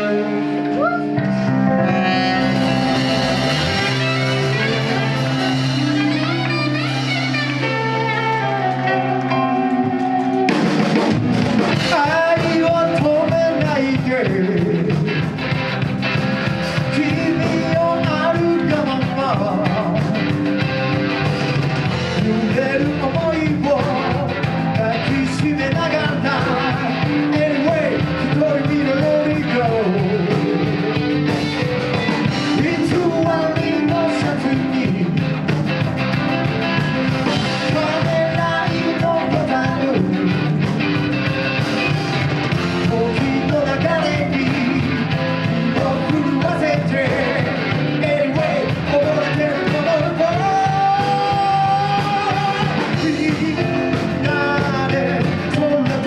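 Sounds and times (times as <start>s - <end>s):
live rock band playing: 0.0s - 56.0s
person singing lead vocal: 0.0s - 56.0s.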